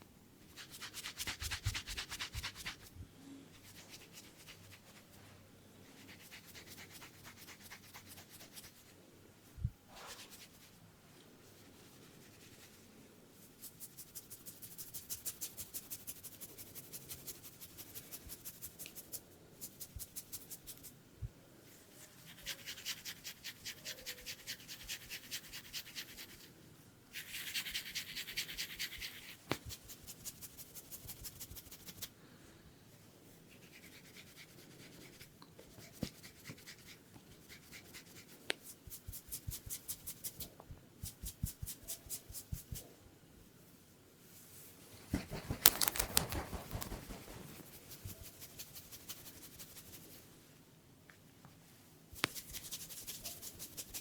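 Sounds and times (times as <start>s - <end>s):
rubbing and scratching on scalp: 0.5s - 2.9s, 3.6s - 5.3s, 5.9s - 8.9s, 9.9s - 10.8s, 11.4s - 21.0s, 21.9s - 26.5s, 27.1s - 32.1s, 33.5s - 42.9s, 44.5s - 50.2s, 52.1s - 54.0s.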